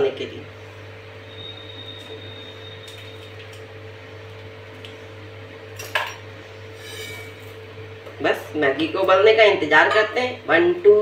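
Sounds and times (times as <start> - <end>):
gas burner hum and hiss: 0.0 - 11.0.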